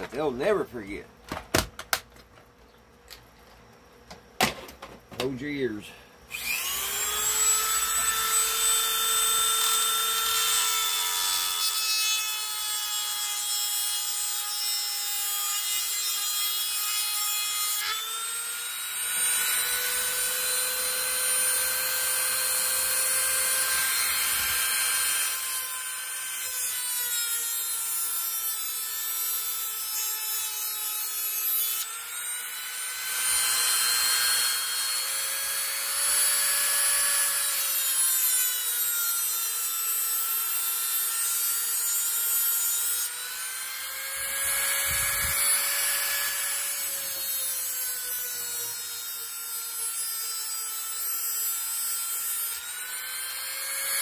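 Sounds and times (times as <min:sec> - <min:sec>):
power cutting tool motor whine: 0:06.3 - 0:54.0.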